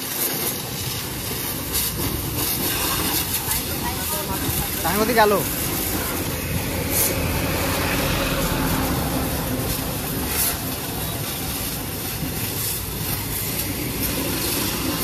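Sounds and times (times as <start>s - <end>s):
high-pressure water jet spraying: 0.0s - 15.0s.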